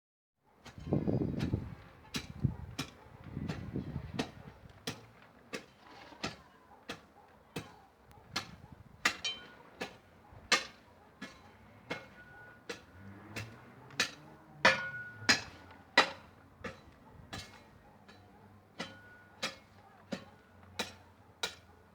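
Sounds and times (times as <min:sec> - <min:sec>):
hoe blade striking ground: 0:00.6 - 0:21.8.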